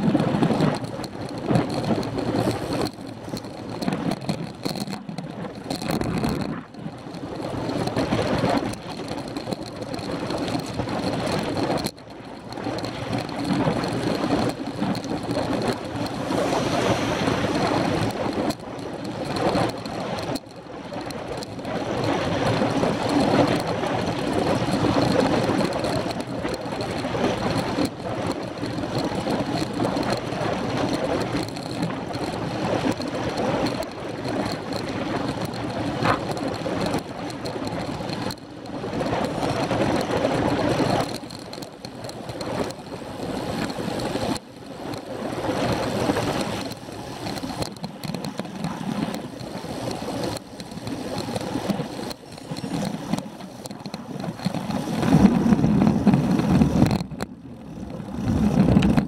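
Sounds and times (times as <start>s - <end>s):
bicycle tyre and road noise: 0.0s - 59.0s
wind rushing over microphone: 0.0s - 59.0s.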